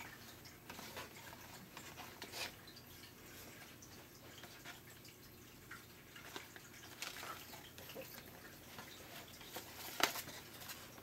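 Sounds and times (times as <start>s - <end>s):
faint ticks and rustles: 0.0s - 11.0s.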